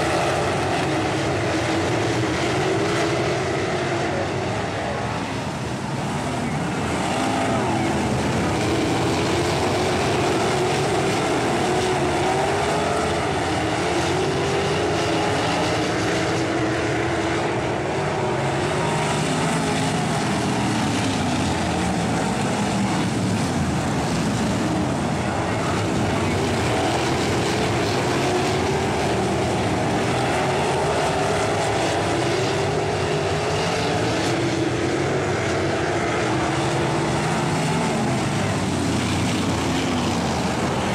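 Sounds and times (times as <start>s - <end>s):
racing car engines: 0.0s - 40.9s.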